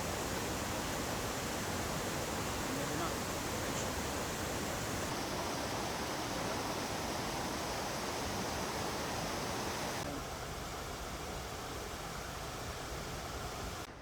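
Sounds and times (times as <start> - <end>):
waterfalls roaring: 0.0 - 13.9.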